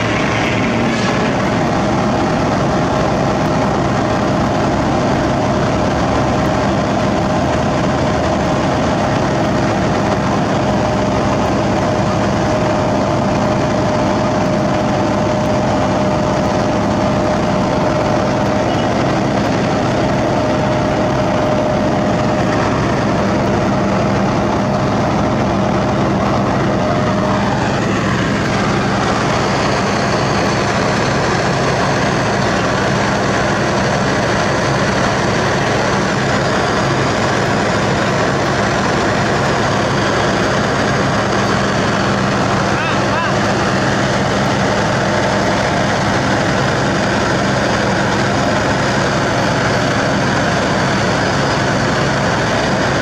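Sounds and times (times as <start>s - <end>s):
diesel engine running: 0.0s - 53.0s
high steady whine: 0.0s - 53.0s.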